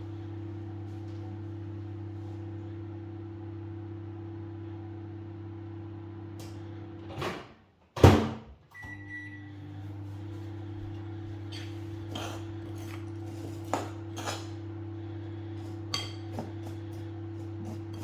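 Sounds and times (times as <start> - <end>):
kitchen appliance electrical hum: 0.0 - 18.0.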